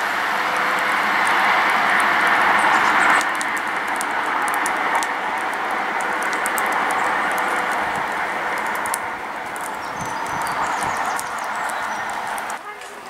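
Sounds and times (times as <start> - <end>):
diesel train running: 0.0 - 13.0.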